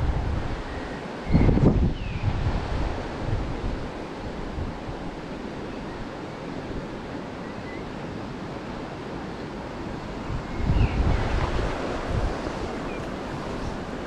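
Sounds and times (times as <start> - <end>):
wind buffeting microphone: 0.0 - 7.4, 8.2 - 14.0
river rushing: 0.0 - 14.0.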